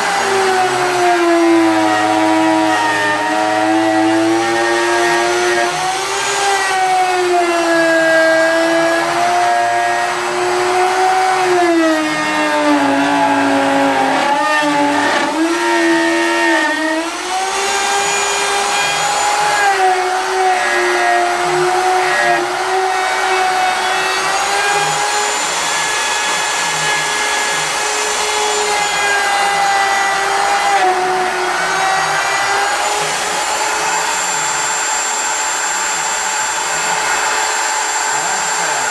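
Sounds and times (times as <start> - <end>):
wood router cutting wood: 0.0 - 38.9.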